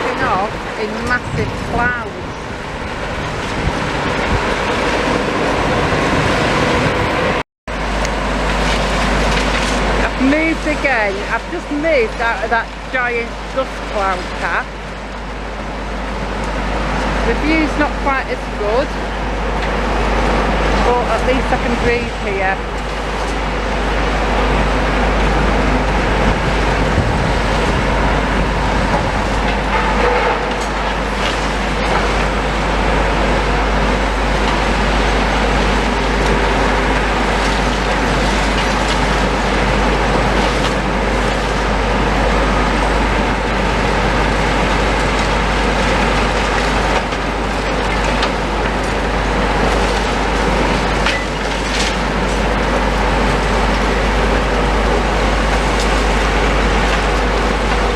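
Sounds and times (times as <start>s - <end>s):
demolition machinery rumbling: 0.0s - 57.9s.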